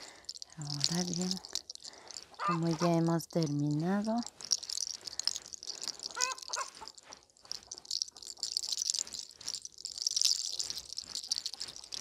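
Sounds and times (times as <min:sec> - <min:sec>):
fingers rustling through hair: 0:00.0 - 0:12.0.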